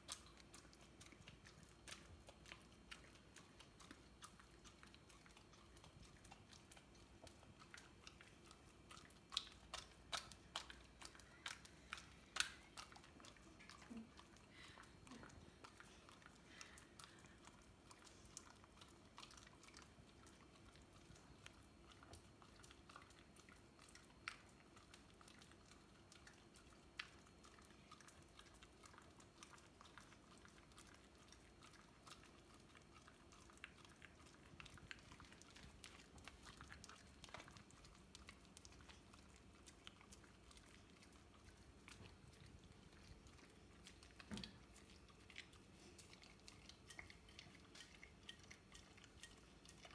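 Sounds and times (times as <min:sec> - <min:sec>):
dog chewing and licking: 0:00.0 - 0:49.9.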